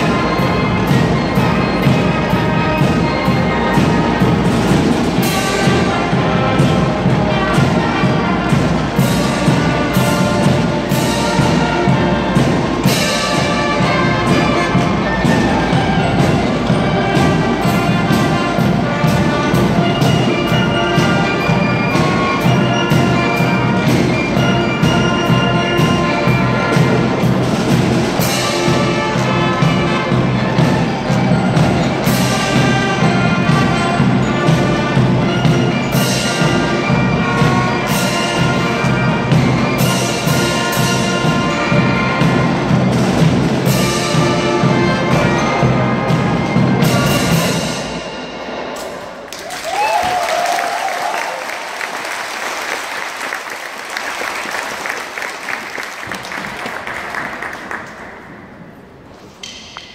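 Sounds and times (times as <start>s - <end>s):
steady drum beat: 0.0s - 48.7s
marching band playing: 0.0s - 59.9s.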